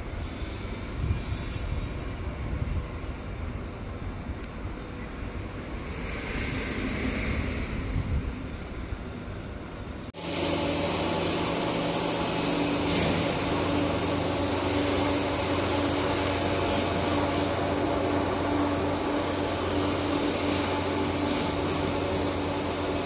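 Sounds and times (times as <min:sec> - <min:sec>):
machinery hum and hiss: 0:00.0 - 0:23.0.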